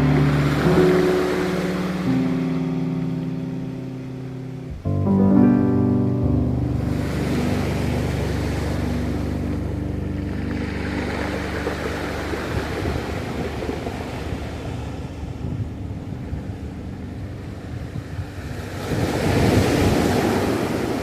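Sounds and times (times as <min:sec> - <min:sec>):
low held music notes: 0:00.0 - 0:20.9
ocean waves washing ashore: 0:00.0 - 0:21.0.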